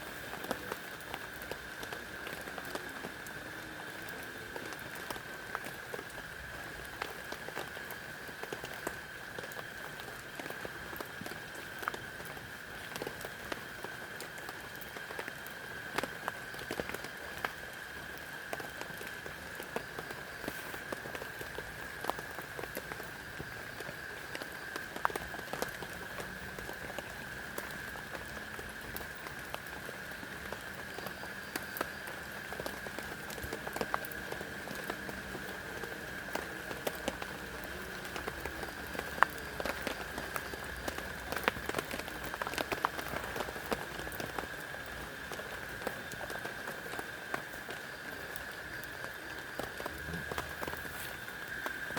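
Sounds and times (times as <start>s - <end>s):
close raindrops striking: 0.0s - 51.9s
heavy rain: 0.0s - 51.9s.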